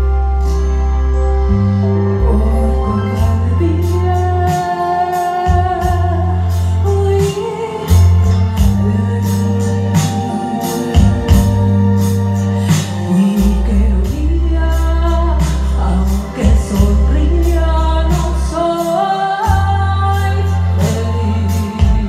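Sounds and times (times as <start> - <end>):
amplified backing music: 0.0 - 22.0
woman singing into microphone: 2.2 - 22.0.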